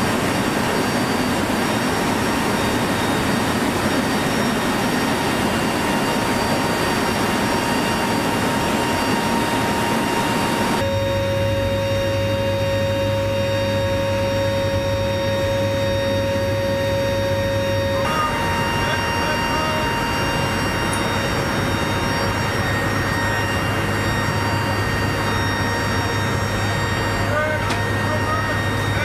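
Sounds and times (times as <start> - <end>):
constant hum: 0.0 - 29.0
turboprop engines in flight: 0.0 - 29.0.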